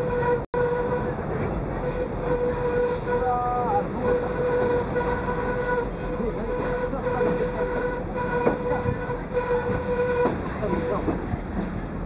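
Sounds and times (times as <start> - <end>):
steady whining tone: 0.0 - 12.0
train rumbling on track: 0.0 - 12.0.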